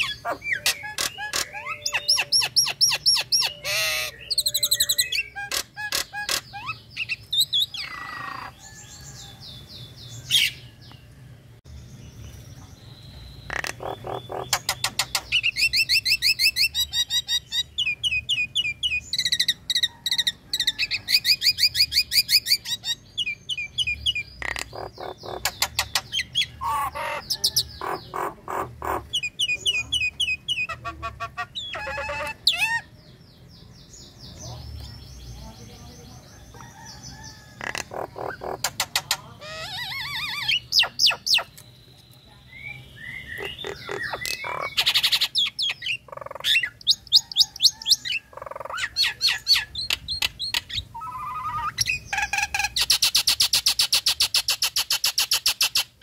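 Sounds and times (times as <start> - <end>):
myna chattering and whistling: 0.0 - 8.6, 13.4 - 32.9, 36.4 - 56.0.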